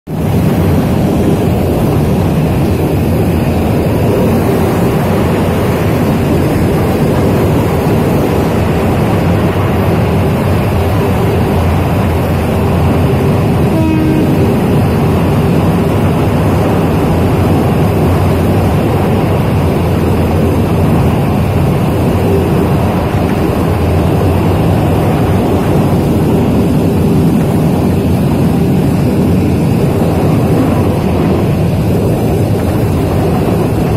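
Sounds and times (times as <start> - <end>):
passenger train rumbling: 0.1 - 33.9.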